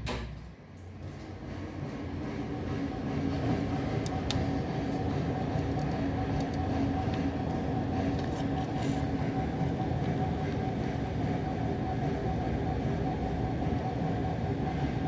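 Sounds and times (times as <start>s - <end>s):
constant hum: 0.0s - 15.0s
low mechanical rumble: 0.0s - 15.0s.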